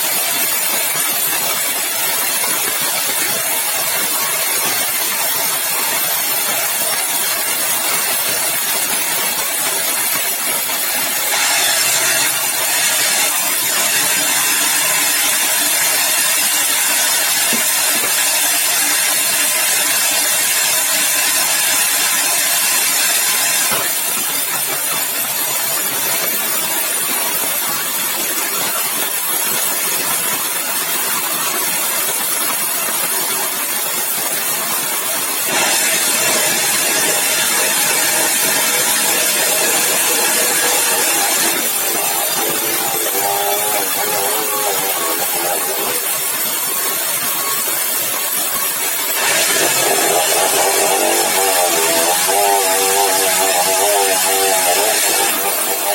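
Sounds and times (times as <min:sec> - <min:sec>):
sawmill saw cutting timber: 0:00.0 - 0:55.9.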